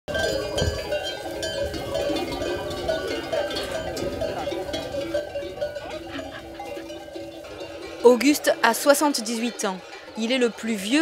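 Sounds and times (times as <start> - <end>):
sheep bells ringing: 0.1 - 11.0.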